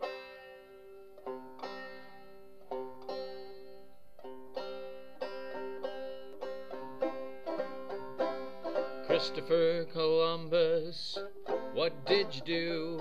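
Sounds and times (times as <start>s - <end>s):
strummed string instrument chords: 0.0s - 13.0s.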